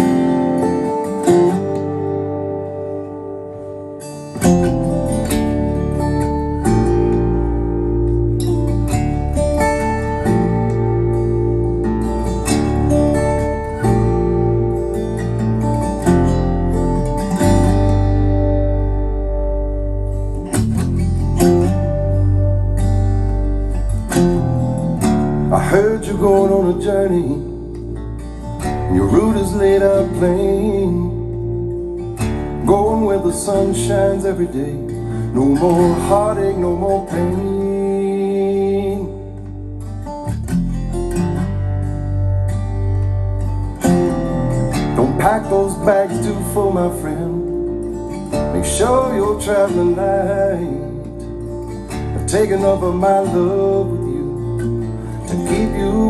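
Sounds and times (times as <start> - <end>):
acoustic guitar music: 0.0 - 56.0
deep bass line: 4.4 - 56.0.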